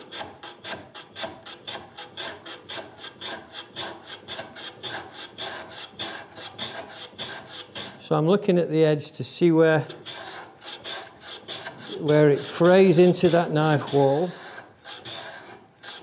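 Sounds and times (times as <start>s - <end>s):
hand plane shaving wood: 0.0s - 8.0s, 9.8s - 16.0s.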